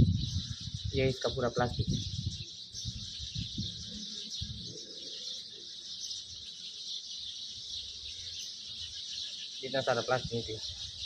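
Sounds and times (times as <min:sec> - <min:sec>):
high-pitched chirping chorus: 0:00.0 - 0:11.0.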